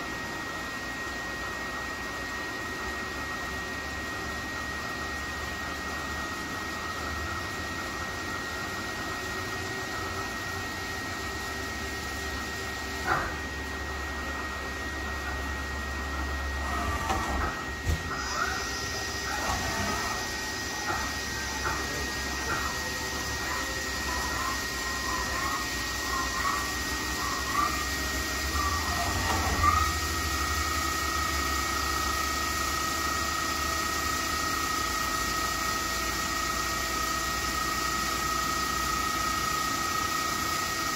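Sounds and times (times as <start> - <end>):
high machine whine: 0.0 - 40.9
lathe mechanical hum: 0.0 - 40.9
tool turret whirring: 0.0 - 40.9.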